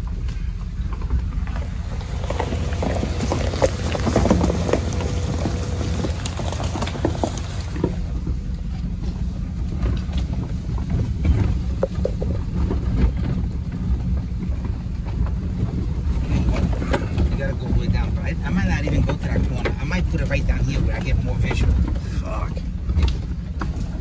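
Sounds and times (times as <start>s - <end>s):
knocks and rattles over bumps: 0.0s - 24.0s
truck engine and tyres rumbling: 0.0s - 24.0s.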